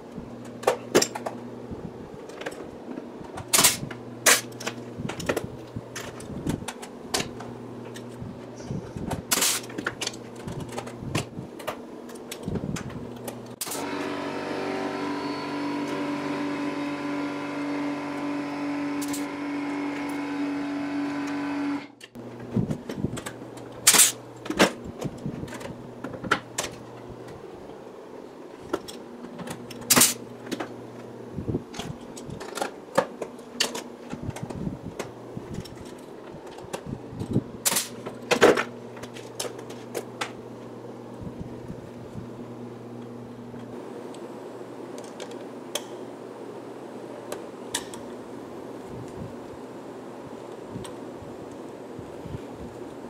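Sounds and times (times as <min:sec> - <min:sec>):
steady machine hum: 0:00.0 - 0:53.0.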